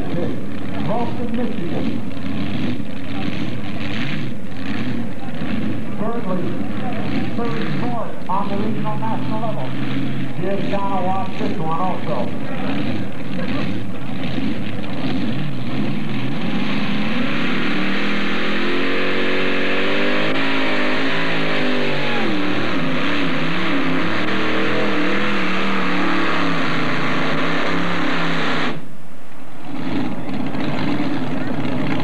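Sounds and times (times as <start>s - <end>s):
tractor engines at full throttle: 0.0s - 32.0s.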